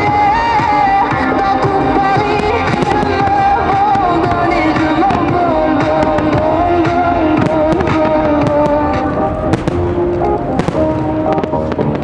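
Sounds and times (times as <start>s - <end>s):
fireworks bangs: 0.0s - 12.0s
fireworks popping and crackling: 0.0s - 12.0s
music with held melody: 0.0s - 12.0s.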